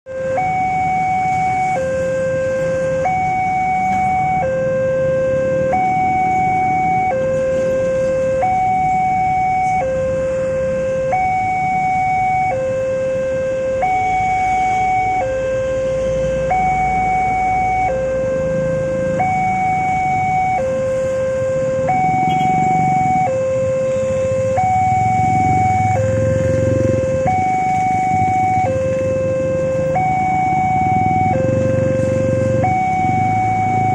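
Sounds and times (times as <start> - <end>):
low rumble of road traffic: 0.1 - 33.9
two-tone level crossing alarm: 0.1 - 33.9.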